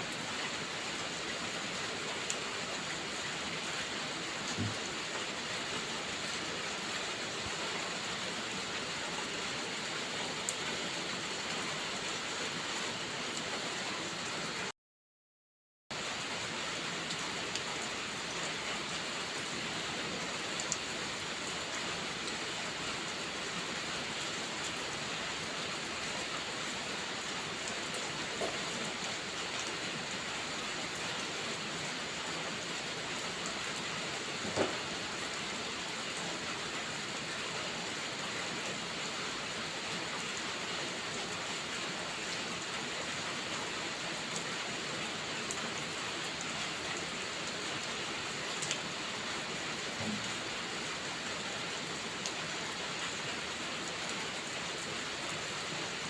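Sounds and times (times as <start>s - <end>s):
heavy rain: 0.0s - 14.7s, 15.9s - 56.0s.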